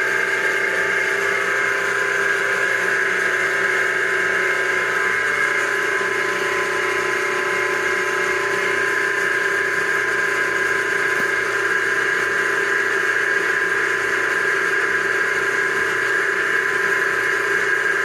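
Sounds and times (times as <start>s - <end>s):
drill press motor whine: 0.0s - 18.0s.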